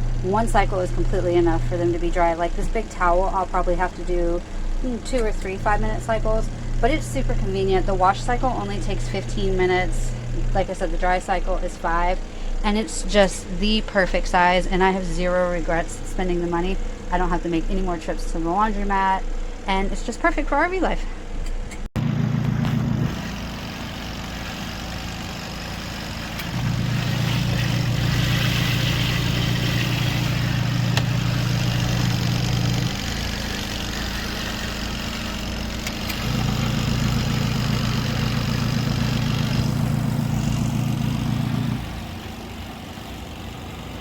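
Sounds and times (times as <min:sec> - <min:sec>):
washing machine motor humming: 0:00.0 - 0:44.0.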